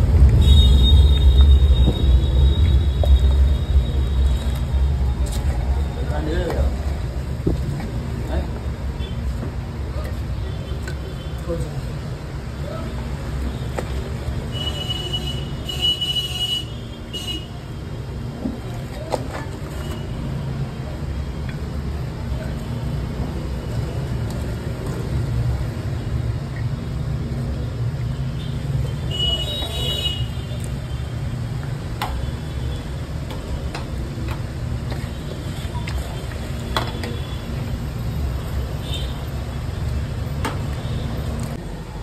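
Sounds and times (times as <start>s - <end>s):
street traffic rumble: 0.0s - 42.0s.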